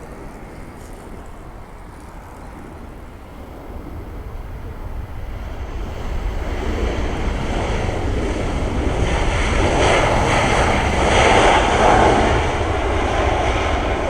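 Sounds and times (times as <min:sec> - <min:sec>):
jet engines roaring: 0:00.0 - 0:14.0
wind rumbling on microphone: 0:00.0 - 0:14.0.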